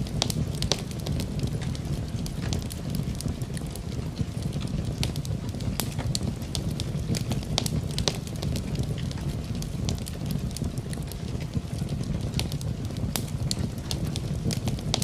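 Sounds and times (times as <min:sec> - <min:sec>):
rain rushing: 0:00.0 - 0:15.0
wood fire crackling: 0:00.0 - 0:15.0.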